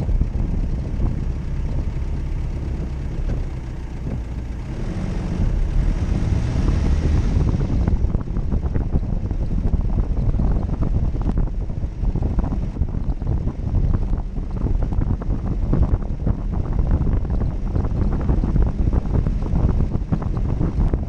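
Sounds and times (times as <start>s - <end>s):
vehicle body rattling: 0.0s - 4.7s, 5.3s - 21.0s
engine low rumble: 0.0s - 21.0s.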